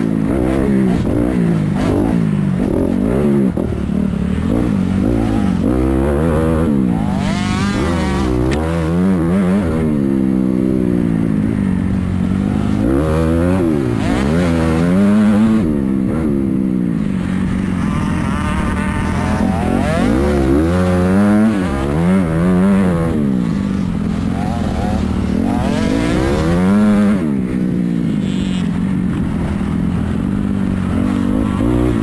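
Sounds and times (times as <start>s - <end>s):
dirt bike engines revving: 0.0s - 32.0s
steady engine drone: 0.0s - 32.0s.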